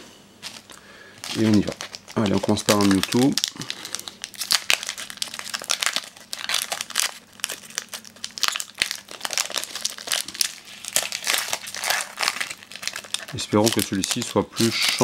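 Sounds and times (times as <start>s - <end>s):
foil pack crinkling: 0.4s - 15.0s.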